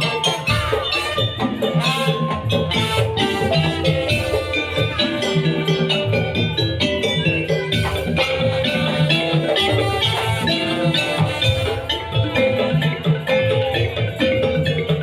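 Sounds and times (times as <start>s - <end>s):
percussion ensemble playing: 0.0s - 15.0s.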